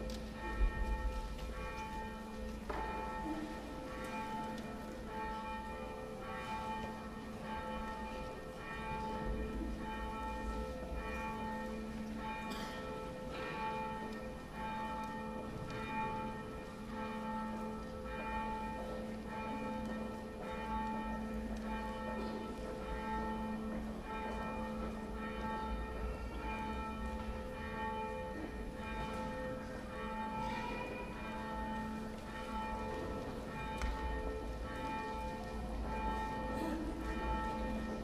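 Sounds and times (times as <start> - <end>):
church bells ringing: 0.0 - 38.0.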